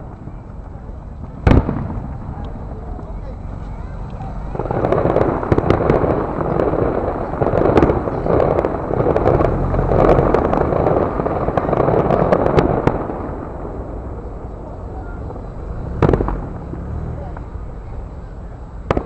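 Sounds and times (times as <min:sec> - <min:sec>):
firework booms: 0:00.0 - 0:18.1, 0:18.8 - 0:19.0
firework crackling pops: 0:00.0 - 0:18.2, 0:18.8 - 0:19.0.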